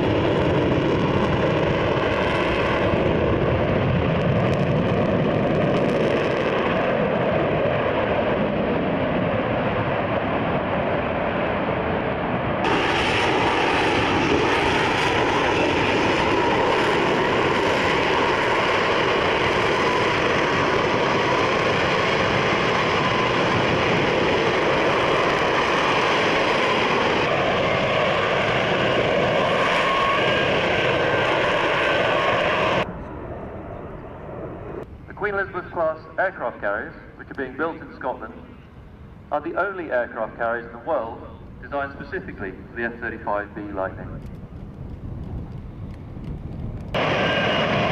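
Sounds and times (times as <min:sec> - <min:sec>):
aircraft engines roaring: 0:00.0 - 0:47.9
faint engine whine: 0:00.0 - 0:47.9.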